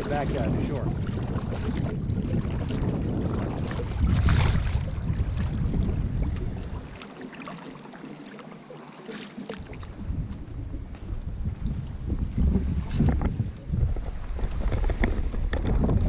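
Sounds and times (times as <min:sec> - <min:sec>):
wind buffeting microphone: 0:00.0 - 0:07.0, 0:09.6 - 0:16.0
water splashing against hull: 0:00.0 - 0:16.0.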